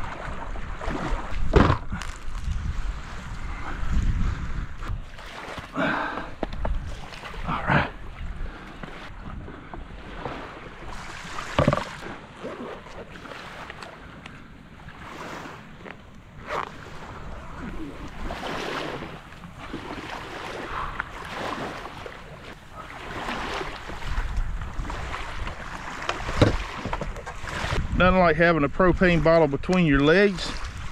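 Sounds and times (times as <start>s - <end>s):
wind on microphone: 0.0s - 13.2s, 13.8s - 30.9s
waves lapping at shore: 0.0s - 27.9s, 29.9s - 30.9s.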